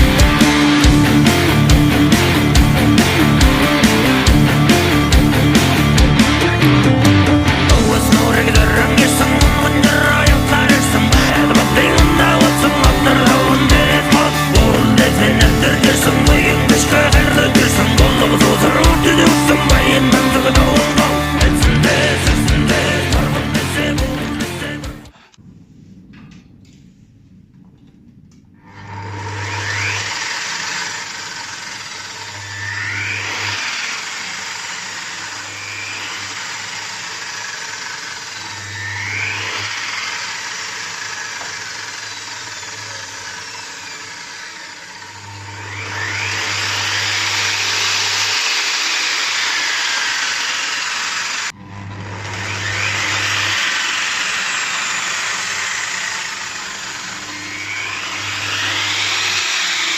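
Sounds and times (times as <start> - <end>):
miter saw motor winding up: 0.0 - 24.9, 28.6 - 59.9.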